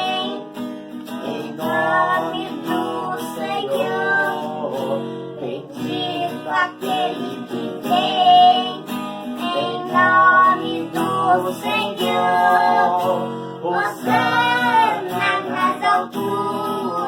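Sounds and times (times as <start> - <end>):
acoustic guitar: 0.0 - 17.0
boy and man singing a hymn: 0.0 - 17.0.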